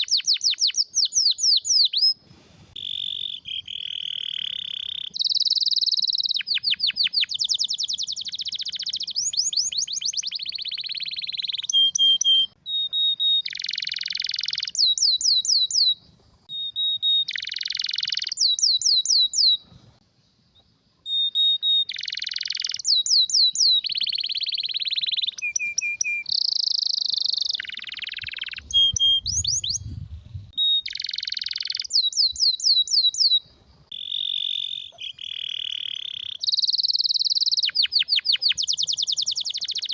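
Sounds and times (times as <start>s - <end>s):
canary singing trills: 0.0s - 19.6s, 20.6s - 39.9s.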